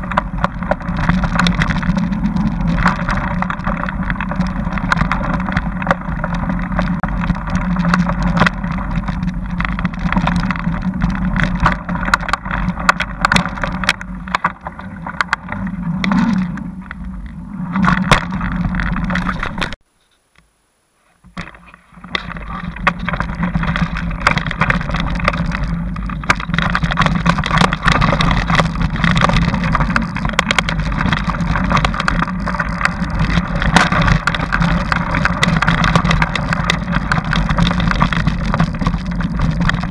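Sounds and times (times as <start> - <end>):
bike rattling and knocking: 0.0 - 19.8, 21.3 - 39.9
wind and tyre rumble: 0.0 - 19.8, 21.0 - 39.9.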